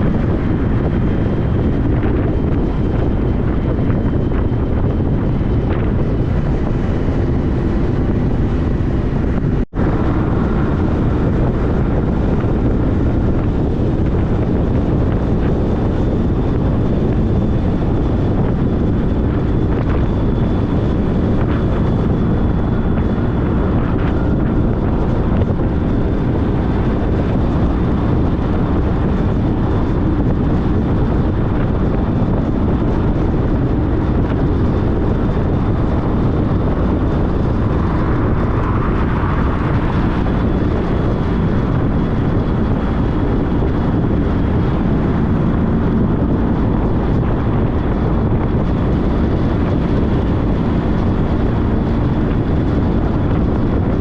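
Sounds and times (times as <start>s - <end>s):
motorcycle riding road noise: 0.0s - 54.0s
wind buffeting microphone: 0.0s - 54.0s.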